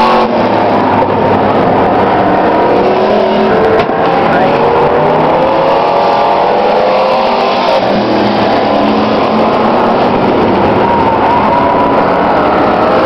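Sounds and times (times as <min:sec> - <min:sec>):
truck engines revving: 0:00.0 - 0:13.0.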